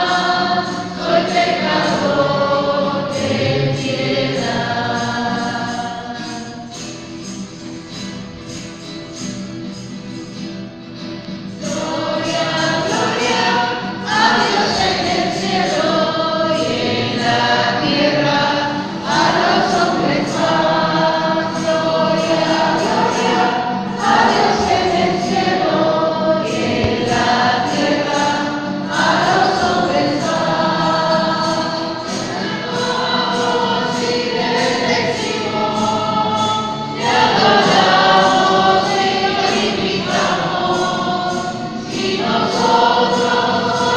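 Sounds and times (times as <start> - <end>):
choir singing a hymn: 0.0 - 8.5, 11.3 - 43.9.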